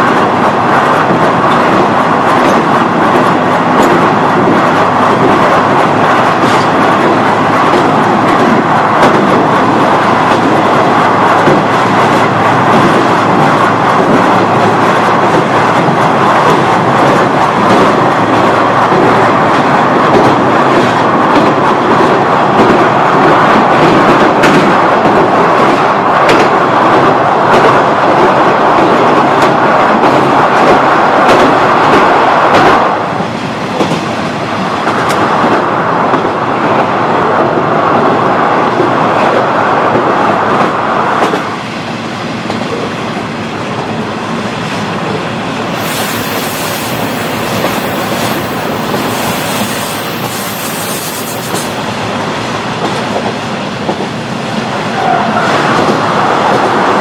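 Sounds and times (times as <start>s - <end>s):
train engine drone: 0.0s - 57.0s.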